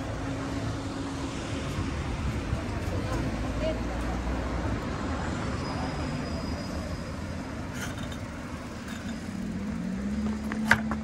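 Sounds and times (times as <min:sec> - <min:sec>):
engine hum: 0:00.0 - 0:11.0
traffic rumble: 0:00.0 - 0:11.0.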